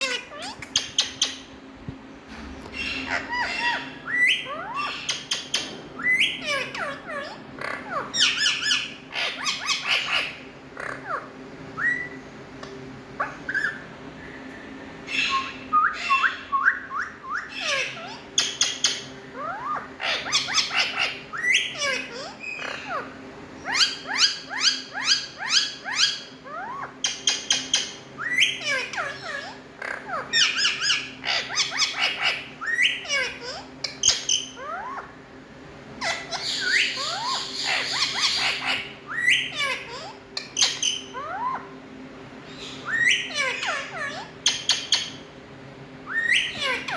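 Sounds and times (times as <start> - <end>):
parakeets squawking: 0.0 - 1.6, 2.4 - 35.2, 36.0 - 41.8, 42.4 - 45.4, 46.0 - 46.9.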